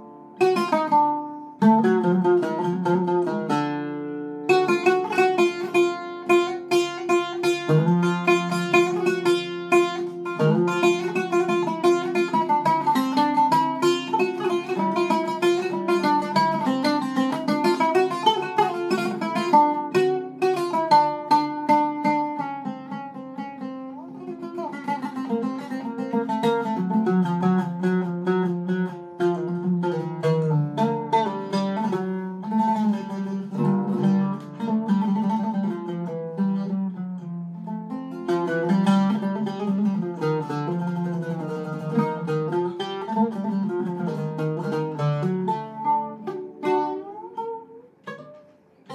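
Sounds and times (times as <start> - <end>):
oud plucked notes: 0.0 - 48.9.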